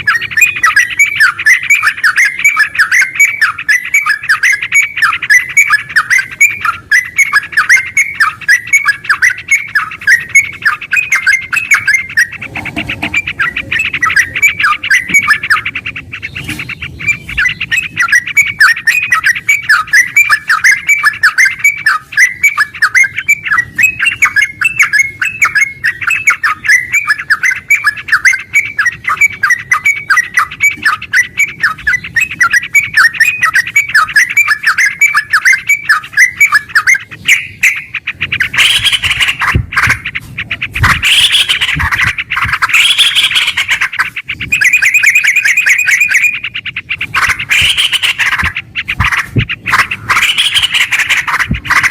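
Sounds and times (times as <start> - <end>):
bird singing rapid notes: 0.0 - 51.9.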